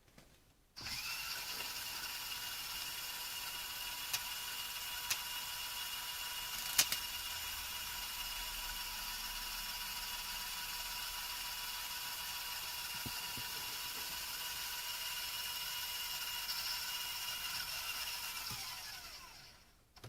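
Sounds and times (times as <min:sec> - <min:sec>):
small electric motor whirring: 0:00.8 - 0:19.8.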